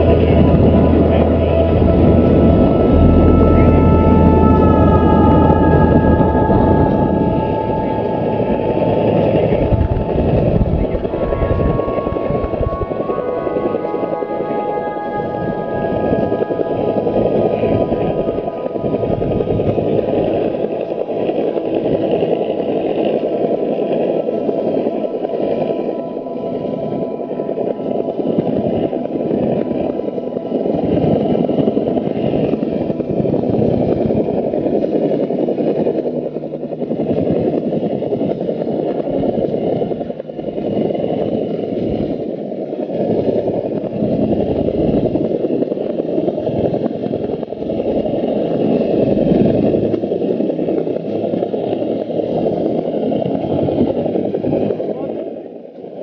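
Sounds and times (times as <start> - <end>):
aircraft engine noise: 0.0 - 56.0
wind buffeting: 0.0 - 56.0.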